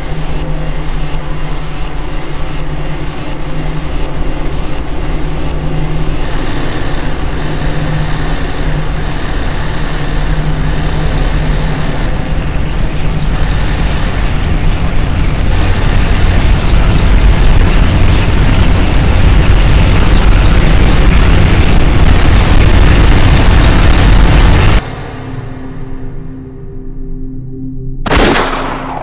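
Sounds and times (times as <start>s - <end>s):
loud dense rumbling: 0.0s - 26.4s
steady low hum: 0.0s - 29.0s.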